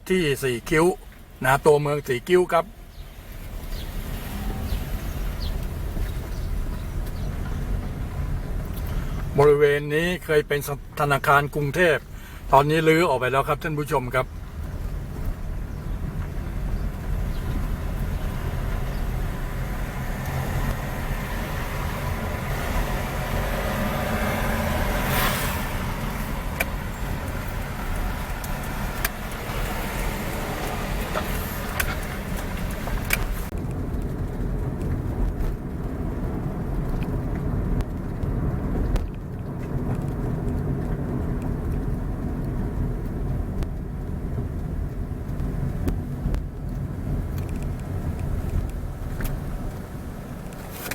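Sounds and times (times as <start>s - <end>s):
vehicle engine and tyres rumble: 0.0s - 50.9s.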